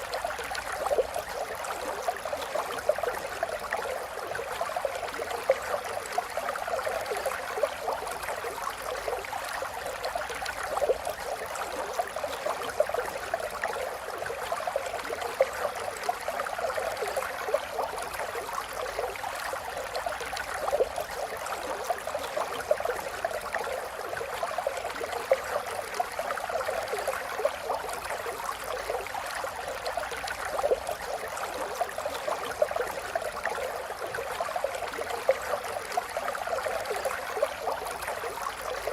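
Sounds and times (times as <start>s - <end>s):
small stream babbling: 0.0s - 38.9s.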